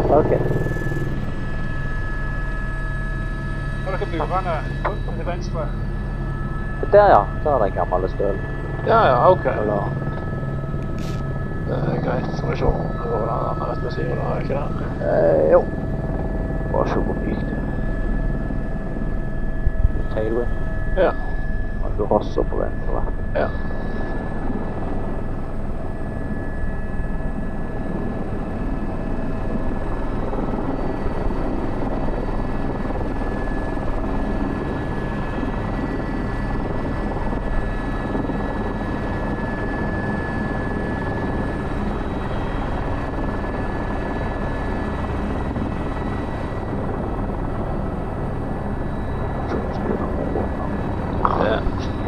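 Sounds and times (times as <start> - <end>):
helicopter engine and rotors: 0.0 - 52.0
high whine: 0.0 - 52.0.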